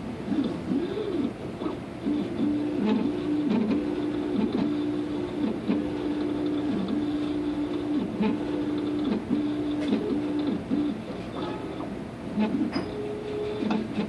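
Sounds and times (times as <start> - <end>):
printer motors whining: 0.0 - 14.0.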